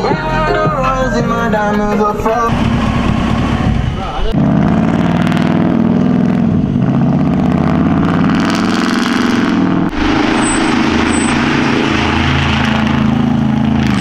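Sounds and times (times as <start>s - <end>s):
truck engine and loud exhaust: 0.0s - 14.0s.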